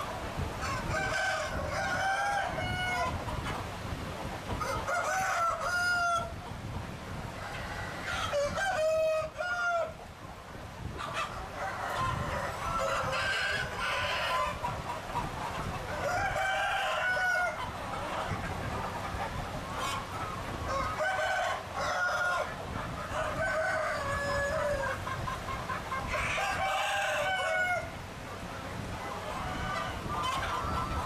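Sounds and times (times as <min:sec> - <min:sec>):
roosters crowing: 0:00.0 - 0:03.3, 0:04.5 - 0:06.4, 0:07.3 - 0:10.0, 0:11.0 - 0:28.0, 0:29.0 - 0:31.0
chickens clucking: 0:00.0 - 0:31.0.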